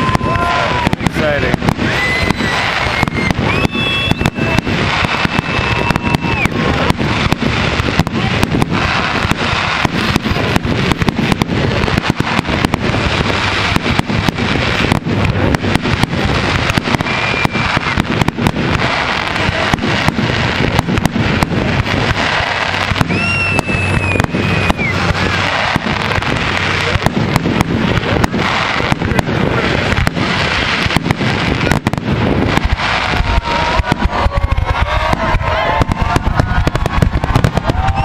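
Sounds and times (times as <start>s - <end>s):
fireworks bursting: 0.0s - 38.0s
fireworks crackle: 0.0s - 38.0s
high firework whistles: 0.0s - 38.0s.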